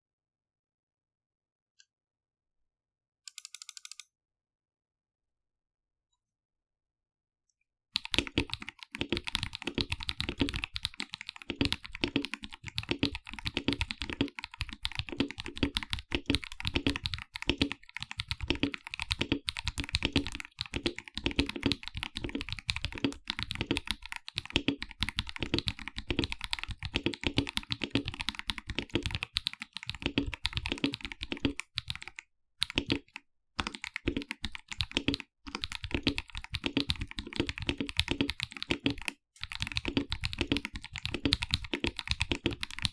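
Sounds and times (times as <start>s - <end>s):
mechanical keyboard typing: 3.3s - 4.1s, 8.0s - 42.9s.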